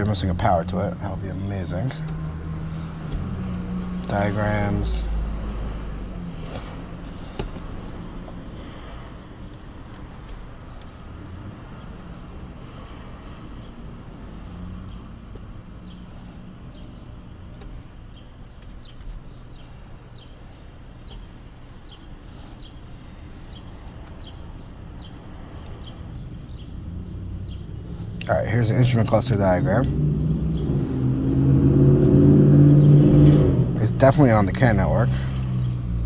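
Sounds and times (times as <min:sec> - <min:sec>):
bird chirping: 0:00.0 - 0:36.0
low background rumble: 0:00.0 - 0:36.0.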